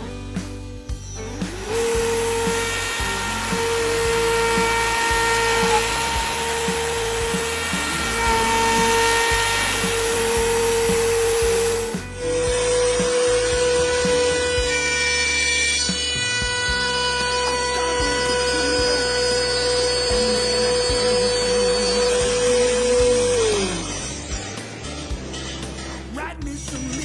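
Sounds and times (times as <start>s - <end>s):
background music: 0.0s - 27.0s
router spindle whining: 1.0s - 24.4s.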